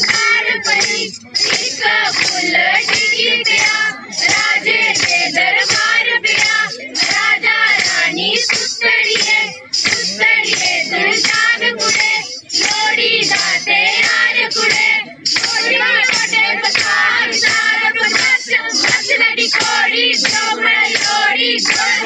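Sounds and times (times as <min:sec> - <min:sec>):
percussion beat: 0:00.0 - 0:22.0
voices singing folk song: 0:00.0 - 0:22.0.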